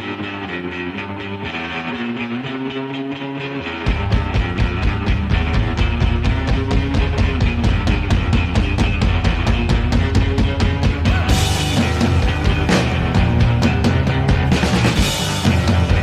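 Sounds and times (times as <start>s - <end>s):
electric guitar line: 0.0s - 16.0s
rock drums and bass: 0.0s - 16.0s.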